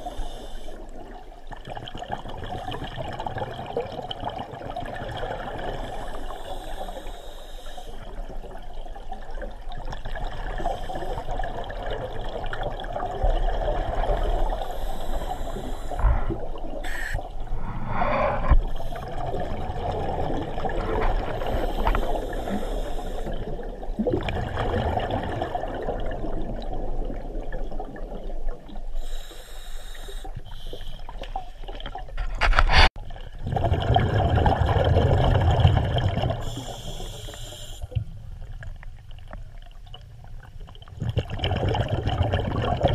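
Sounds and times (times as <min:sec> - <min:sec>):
muffled underwater water noise: 0:00.0 - 0:42.9.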